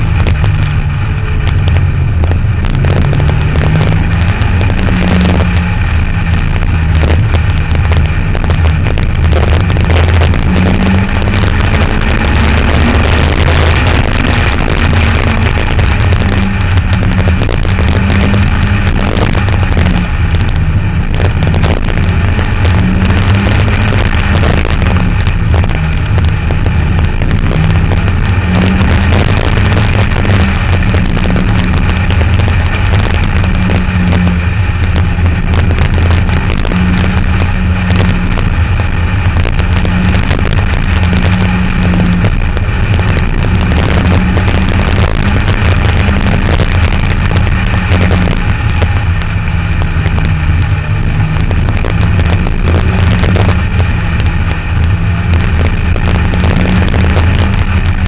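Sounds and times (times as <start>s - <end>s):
car engine droning: 0.0s - 58.0s
wind rush on microphone: 0.0s - 58.0s.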